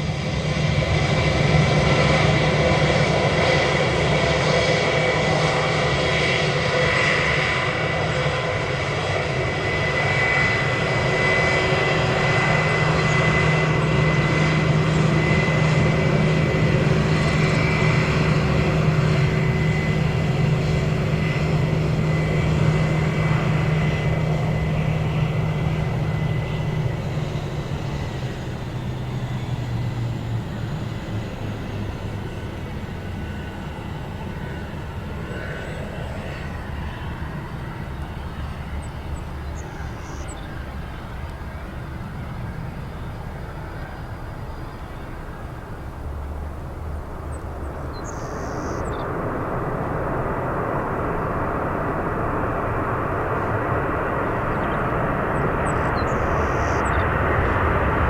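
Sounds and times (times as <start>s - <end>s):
airplane engines running: 0.0s - 58.0s.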